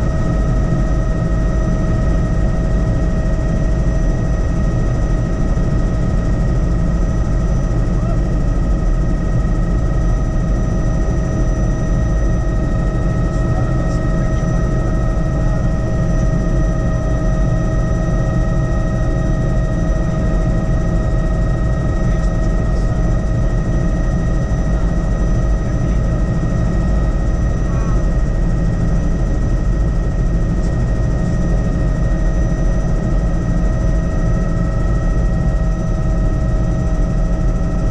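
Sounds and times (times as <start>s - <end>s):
helicopter rotor and engine drone: 0.0s - 37.9s.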